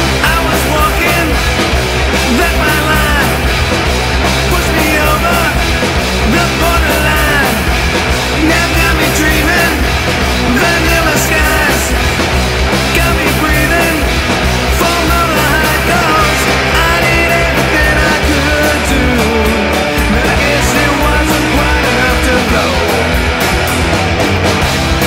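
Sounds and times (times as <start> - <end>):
bending lead lines: 0.0 - 25.0
live rock band playing: 0.0 - 25.0.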